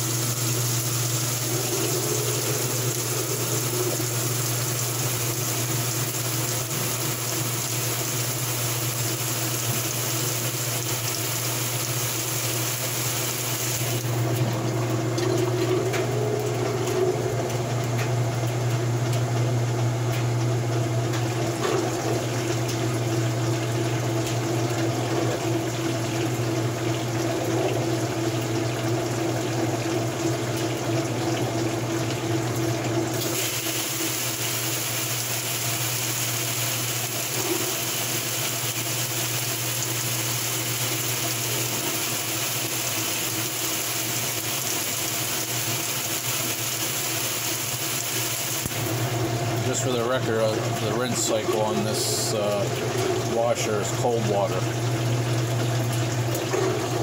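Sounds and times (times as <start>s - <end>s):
water spraying into tub: 0.0s - 19.2s, 20.3s - 57.0s
washing machine motor hum: 0.0s - 57.0s.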